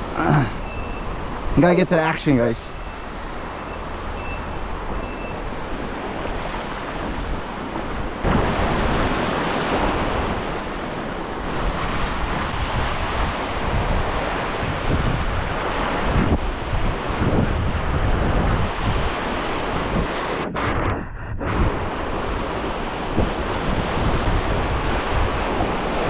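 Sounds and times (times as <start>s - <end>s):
ocean surf washing in: 0.0s - 26.0s
wind buffeting microphone: 2.8s - 26.0s.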